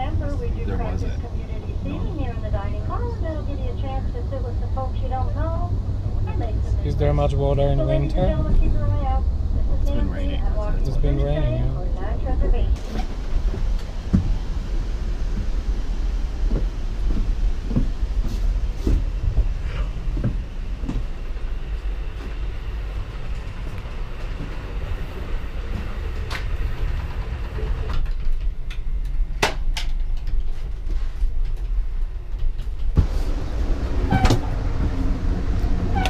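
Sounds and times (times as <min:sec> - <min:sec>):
train car rumbling on rails: 0:00.0 - 0:36.0.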